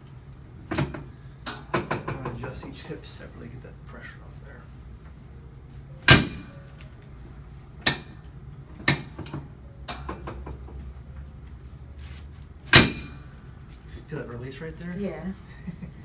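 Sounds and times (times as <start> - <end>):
chiropractic adjustment clacks: 0.3 - 5.2, 6.0 - 7.1, 7.8 - 15.1.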